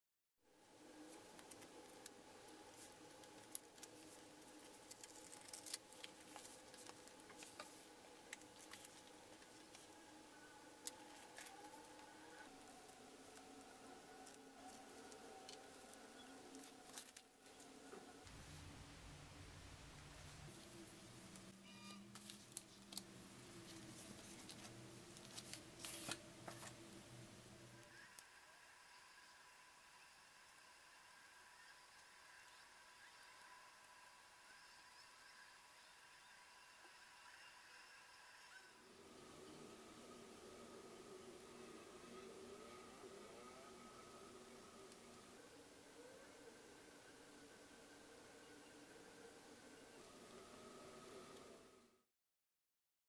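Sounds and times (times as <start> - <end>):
faint steady hum: 0.5 - 52.0.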